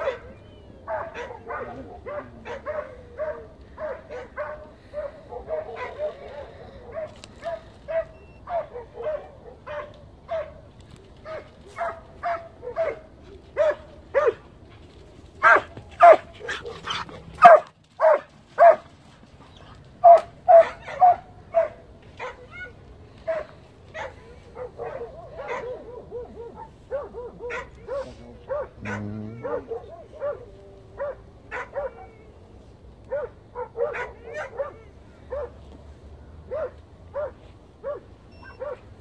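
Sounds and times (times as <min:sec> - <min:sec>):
dog yelping: 0:00.0 - 0:10.6, 0:15.4 - 0:18.8, 0:19.5 - 0:32.3, 0:33.1 - 0:35.6, 0:36.5 - 0:38.9
hound barking: 0:00.0 - 0:14.4, 0:15.4 - 0:18.9, 0:20.0 - 0:32.3, 0:33.0 - 0:35.6, 0:36.5 - 0:39.0.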